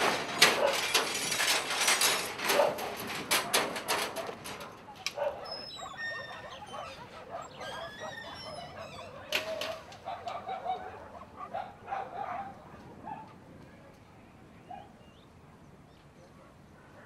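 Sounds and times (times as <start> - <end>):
dogs barking and yelping: 0.0 - 13.4, 14.7 - 15.0.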